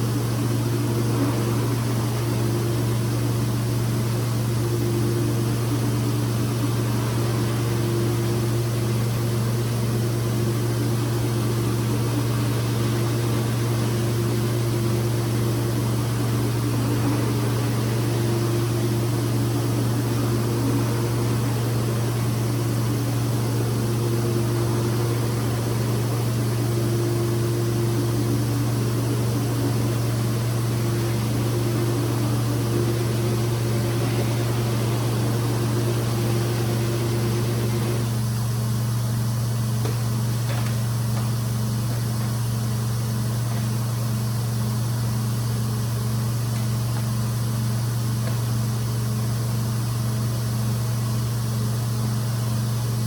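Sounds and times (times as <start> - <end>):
carpet-cleaning machine running: 0.0 - 53.0.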